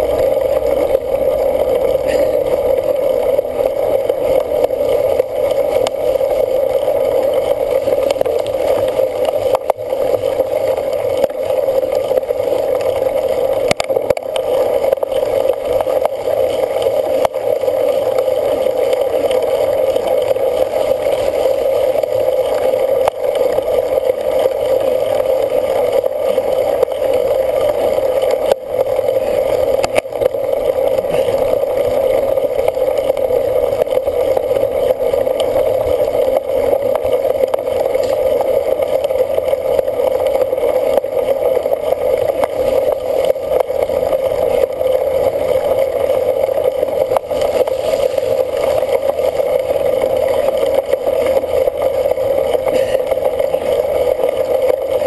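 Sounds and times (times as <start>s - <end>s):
bike rolling noise: 0.0s - 55.0s.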